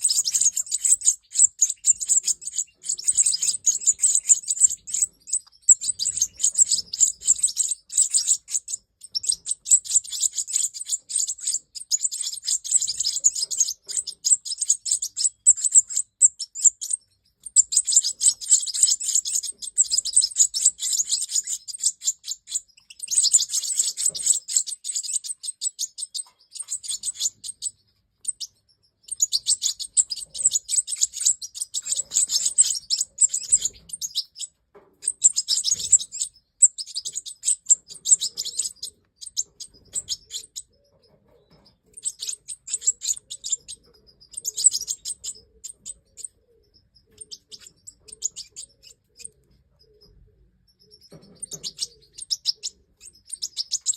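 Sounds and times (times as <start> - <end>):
goldfinch singing: 0.0 - 53.9.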